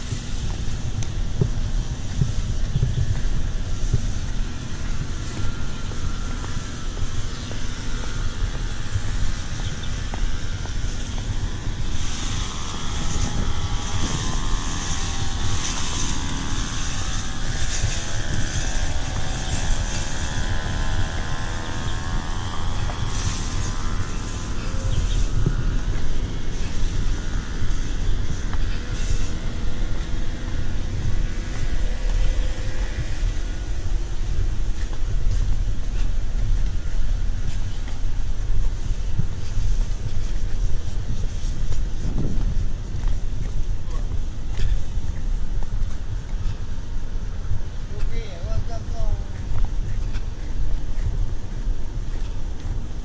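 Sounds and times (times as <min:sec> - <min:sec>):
garden trimmer engine running: 0:00.0 - 0:53.0
wind rumbling on microphone: 0:00.0 - 0:53.0.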